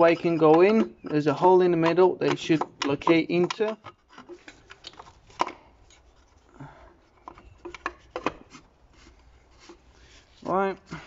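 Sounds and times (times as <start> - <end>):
rubbing of parts: 0.0 - 11.0.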